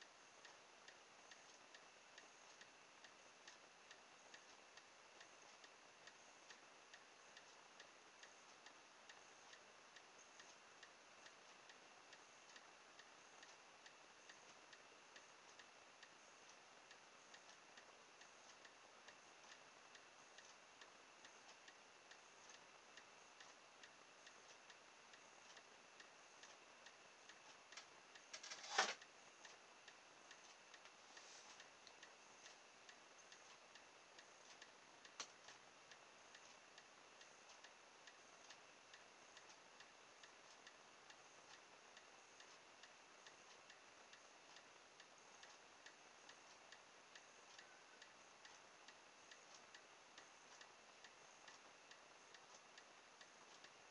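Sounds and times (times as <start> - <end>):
faint steady ticking: 0.0 - 53.9.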